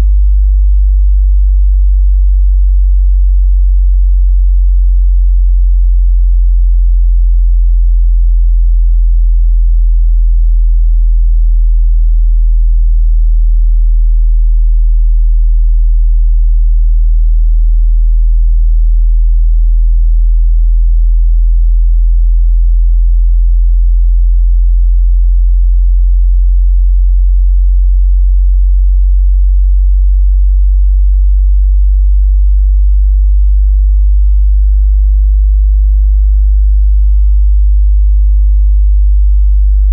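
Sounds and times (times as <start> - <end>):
low sub-bass hum: 0.0 - 39.9.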